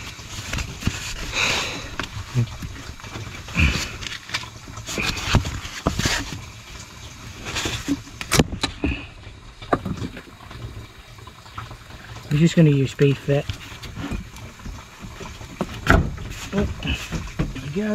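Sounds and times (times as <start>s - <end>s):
insulation rustling: 0.0s - 17.9s.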